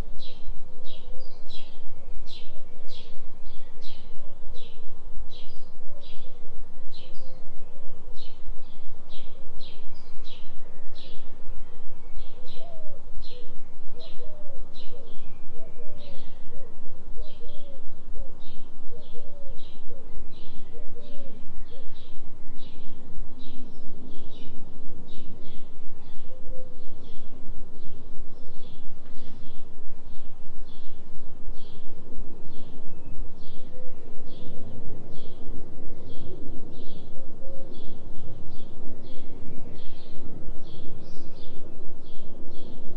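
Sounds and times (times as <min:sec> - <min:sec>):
low pulsing drone tone: 0:00.0 - 0:42.9.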